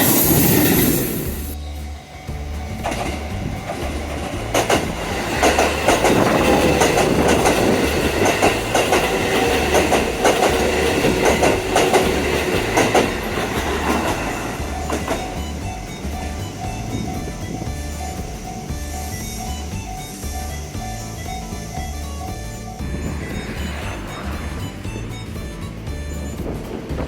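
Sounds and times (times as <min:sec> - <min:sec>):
electric train passing: 0:00.0 - 0:27.0
wheels clicking over rail joints: 0:00.0 - 0:27.0.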